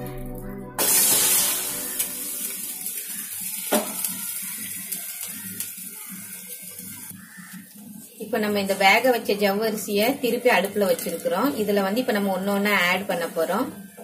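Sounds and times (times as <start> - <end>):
pot sizzling on burner: 0.0 - 14.0.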